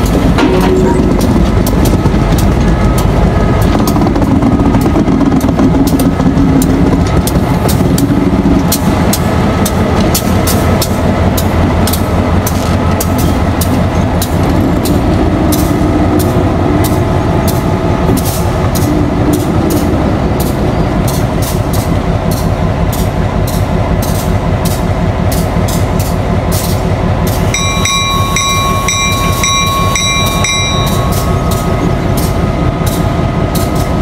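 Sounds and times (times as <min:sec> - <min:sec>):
locomotive engine running: 0:00.0 - 0:34.0
wheels clicking and clanking on track: 0:00.0 - 0:34.0.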